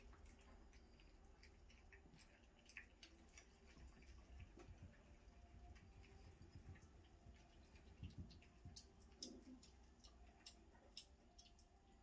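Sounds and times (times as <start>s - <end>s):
puppies lapping milk: 0.0s - 12.0s.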